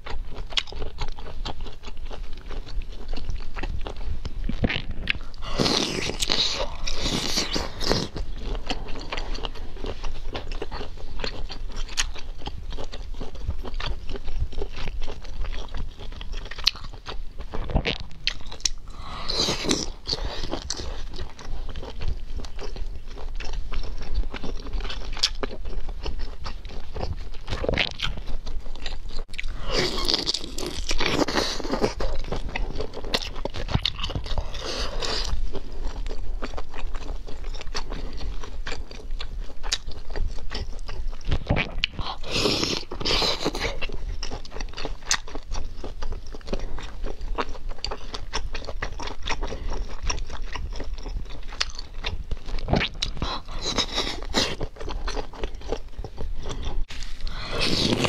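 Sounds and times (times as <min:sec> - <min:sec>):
biting and chewing crunching: 0:00.0 - 0:58.0.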